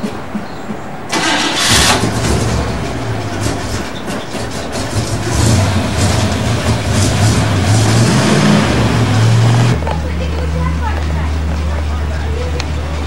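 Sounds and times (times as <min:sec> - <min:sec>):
car engine starting and running: 0:01.0 - 0:13.0.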